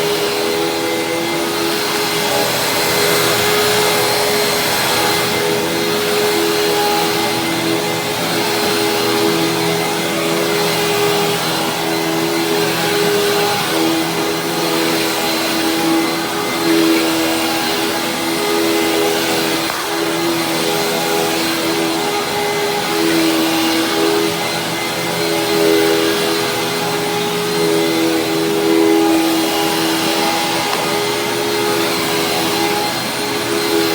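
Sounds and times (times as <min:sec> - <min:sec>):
vacuum cleaner motor hum: 0:00.0 - 0:33.9.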